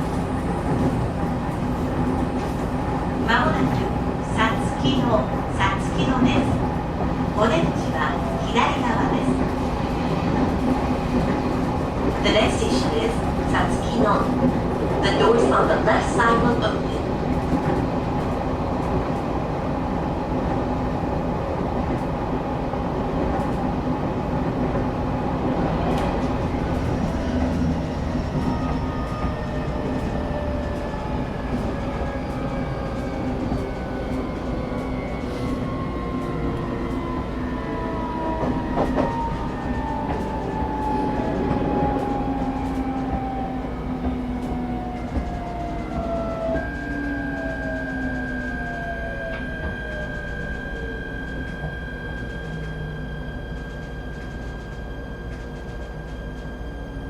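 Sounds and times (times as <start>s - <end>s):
train carriage rumble and hum: 0.0s - 57.0s.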